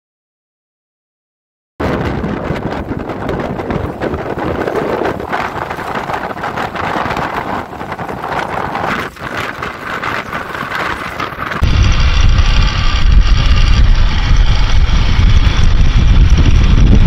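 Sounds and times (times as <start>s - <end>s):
wind buffeting microphone: 1.8s - 17.0s.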